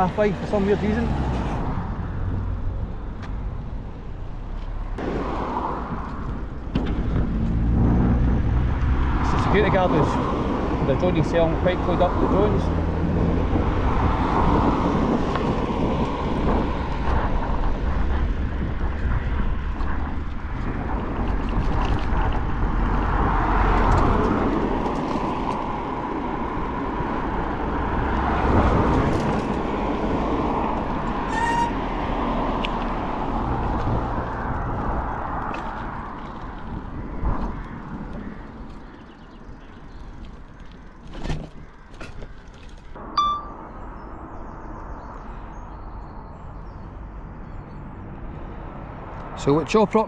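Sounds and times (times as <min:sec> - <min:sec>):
wind rumbling on microphone: 0:00.0 - 0:49.8
cars passing: 0:00.0 - 0:50.0
tyre and road noise: 0:00.0 - 0:50.0.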